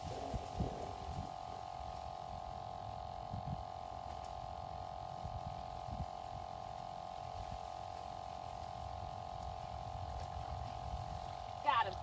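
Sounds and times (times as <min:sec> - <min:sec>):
steady hum: 0:00.0 - 0:12.0
wind rumbling on microphone: 0:00.0 - 0:12.0.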